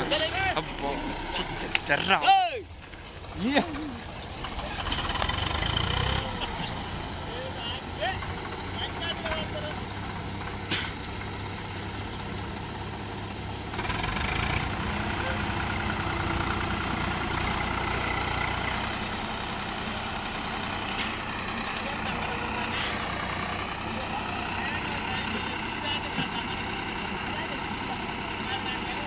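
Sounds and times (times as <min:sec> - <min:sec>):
tractor diesel engine revving: 0:00.0 - 0:02.3, 0:03.1 - 0:29.0.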